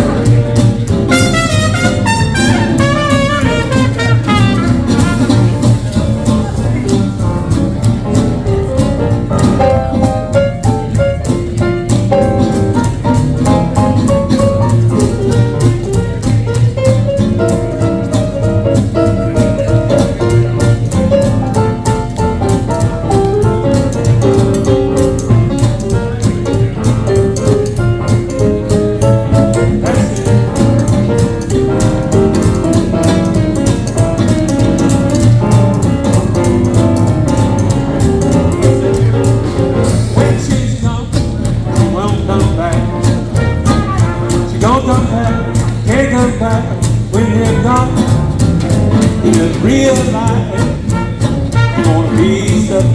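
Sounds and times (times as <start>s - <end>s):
swing jazz band playing: 0.0s - 52.9s.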